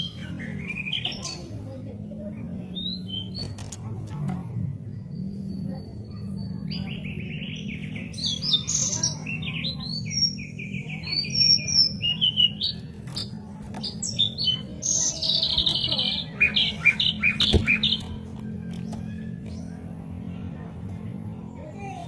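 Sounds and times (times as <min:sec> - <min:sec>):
bird singing varied song: 0:00.0 - 0:22.0
steady low hum: 0:00.0 - 0:22.0.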